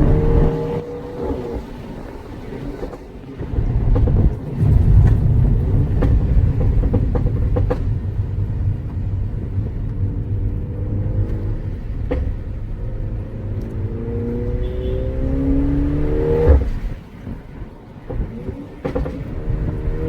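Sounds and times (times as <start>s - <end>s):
car engine rumble: 0.0s - 20.0s
exhaust pops and crackles: 0.0s - 20.0s.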